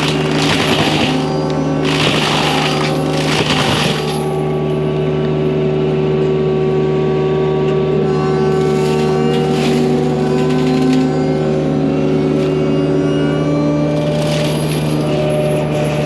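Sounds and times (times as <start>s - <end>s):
diesel engine: 0.0s - 16.0s
forestry mulcher droning hum: 0.0s - 16.0s
mulcher grinding wood: 0.0s - 16.0s.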